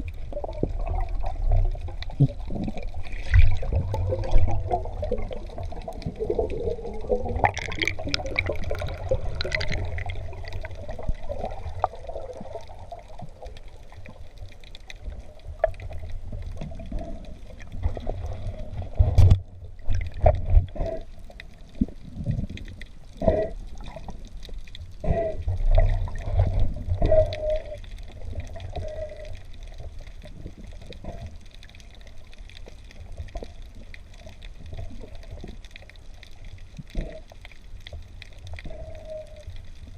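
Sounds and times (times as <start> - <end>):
sea water gurgling: 0.0 - 39.9.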